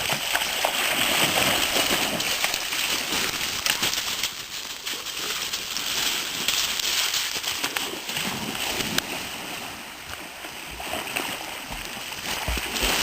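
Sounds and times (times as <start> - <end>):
creek water rushing: 0.0 - 13.0
dogs splashing in water: 0.0 - 13.0.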